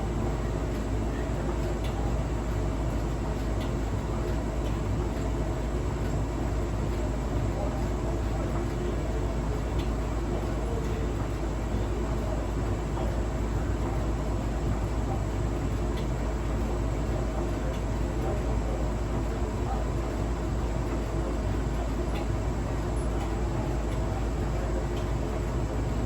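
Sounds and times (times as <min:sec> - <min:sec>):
washing machine rumbling: 0:00.0 - 0:26.0.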